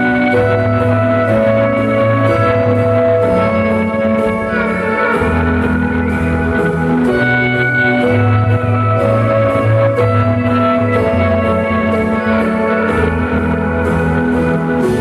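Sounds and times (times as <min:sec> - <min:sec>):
keyboard chords: 0:00.0 - 0:15.0
low bass line: 0:00.0 - 0:15.0.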